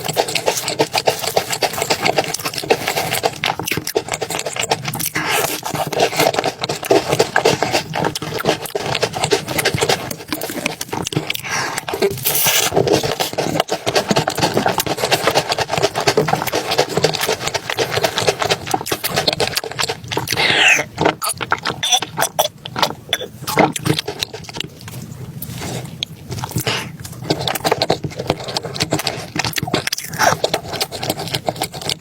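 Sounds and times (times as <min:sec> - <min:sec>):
wet chewing and slurping: 0:00.0 - 0:32.0.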